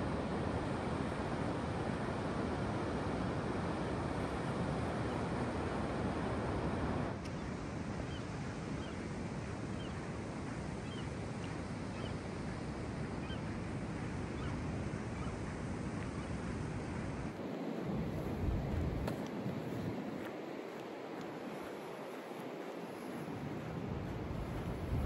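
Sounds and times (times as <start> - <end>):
ocean surf rushing: 0.0 - 25.0.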